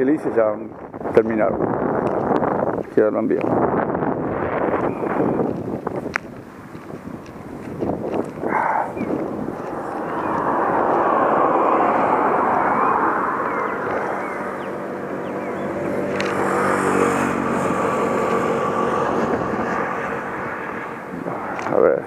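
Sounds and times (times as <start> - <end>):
road vehicles passing: 0.0 - 22.0
vehicle engine hum: 0.7 - 22.0.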